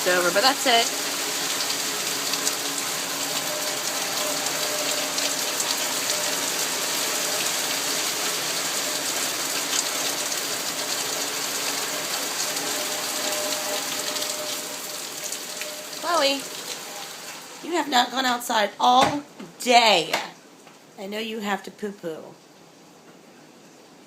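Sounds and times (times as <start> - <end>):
heavy rain pouring: 0.0 - 20.6.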